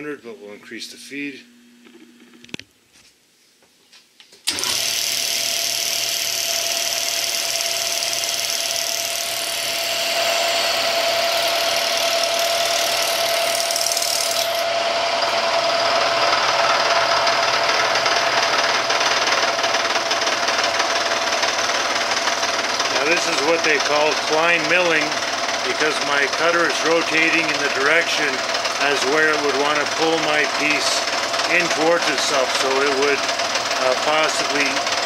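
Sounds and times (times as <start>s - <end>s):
machine hum: 0.0s - 2.9s, 4.4s - 35.0s
milling machine cutting metal: 4.5s - 35.0s.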